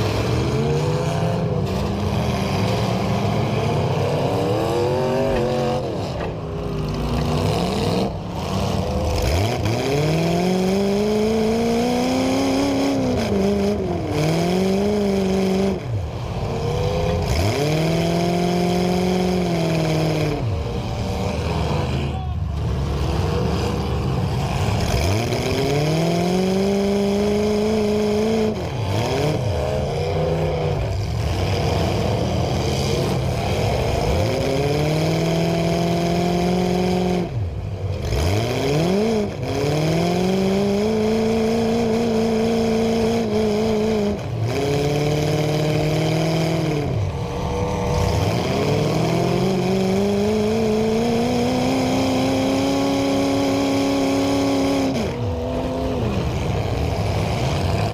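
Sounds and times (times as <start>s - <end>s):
car engine revving hard: 0.0s - 57.9s.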